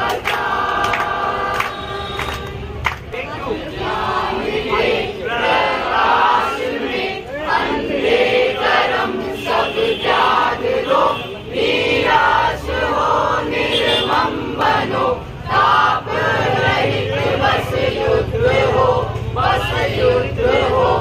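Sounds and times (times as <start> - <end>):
group chanting in unison: 0.0 - 2.0, 3.2 - 21.0.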